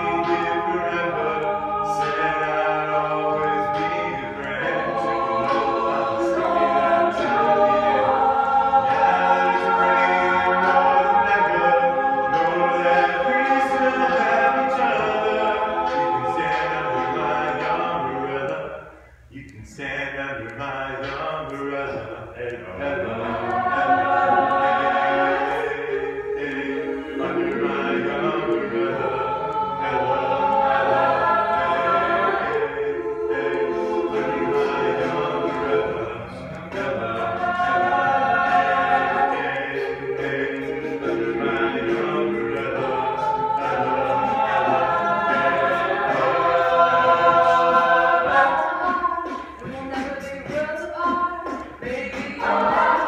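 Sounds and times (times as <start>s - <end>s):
a cappella group singing in harmony: 0.0s - 53.0s
lead voice singing: 0.0s - 53.0s.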